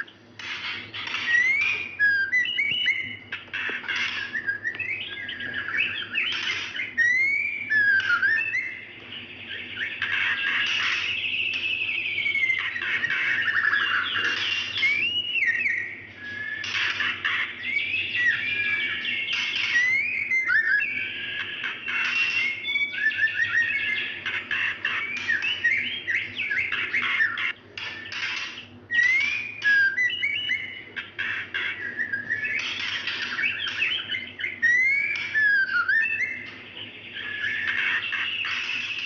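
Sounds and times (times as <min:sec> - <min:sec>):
bird whistling and chattering: 0:00.0 - 0:39.0.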